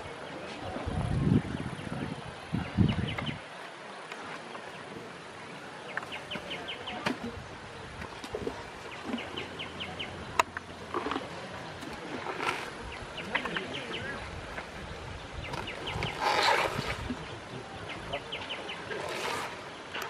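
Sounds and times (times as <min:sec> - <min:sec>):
outdoor ambience: 0:00.0 - 0:20.0.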